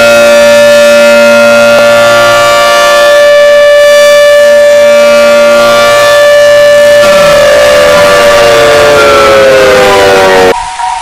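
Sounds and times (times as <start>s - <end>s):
civil defense siren: 0.0s - 10.8s.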